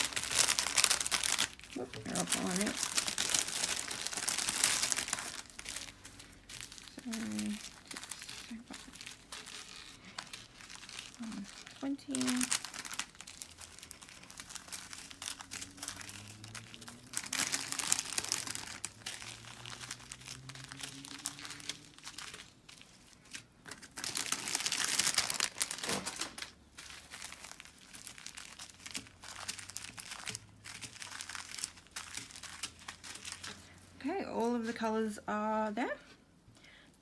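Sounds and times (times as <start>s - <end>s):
plastic bags crinkling: 0.0s - 34.7s.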